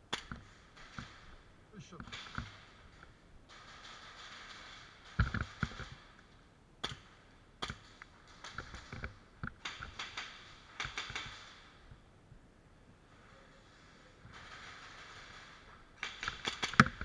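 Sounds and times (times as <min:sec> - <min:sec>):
airsoft guns clicking and knocking: 0:00.1 - 0:12.0, 0:14.2 - 0:17.0.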